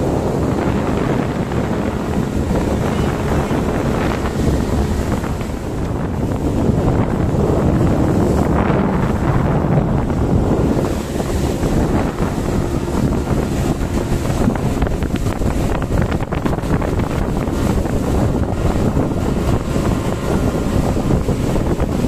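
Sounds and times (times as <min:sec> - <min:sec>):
hull pounding through waves: 0:00.0 - 0:22.0
speedboat running: 0:00.0 - 0:22.0
wind buffeting microphone: 0:00.0 - 0:22.0.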